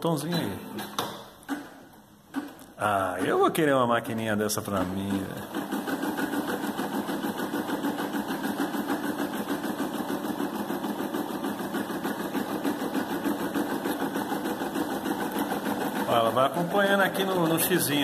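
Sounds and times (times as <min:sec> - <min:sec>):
embroidery machine stitching: 0:00.3 - 0:03.7, 0:04.6 - 0:18.0.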